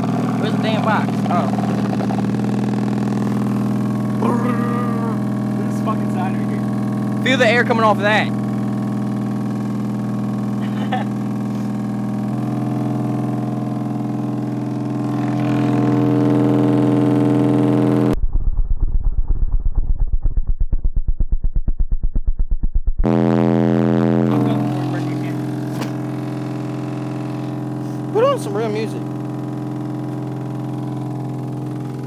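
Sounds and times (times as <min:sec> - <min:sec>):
rapid bass pulses: 0:00.0 - 0:32.0
subwoofer low bass tone: 0:00.0 - 0:32.0.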